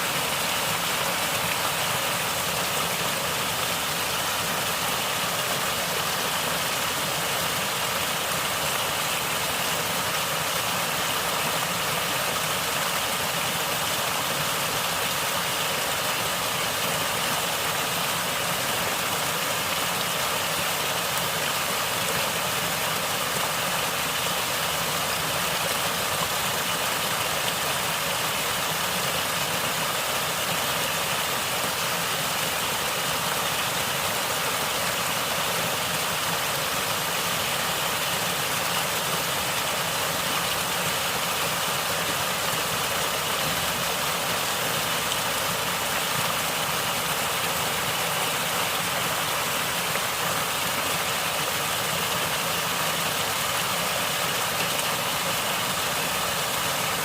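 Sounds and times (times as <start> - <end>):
stream water flowing and gurgling: 0.0 - 57.0.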